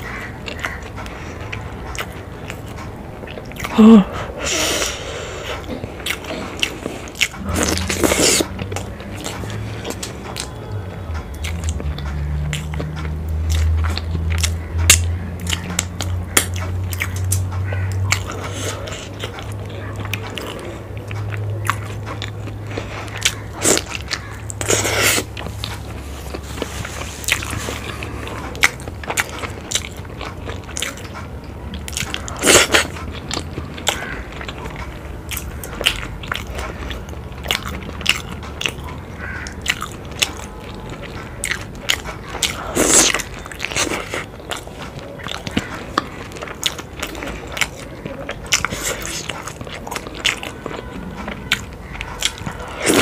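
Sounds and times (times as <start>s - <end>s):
chewing and wet mouth sounds: 0.0s - 53.0s.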